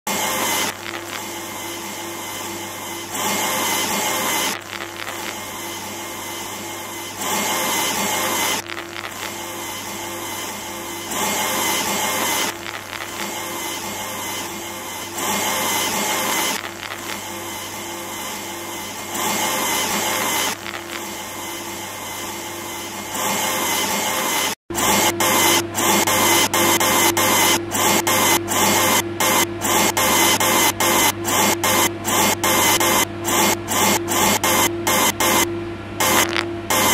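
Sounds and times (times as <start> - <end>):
machinery humming in a cycle: 0.1 - 36.9.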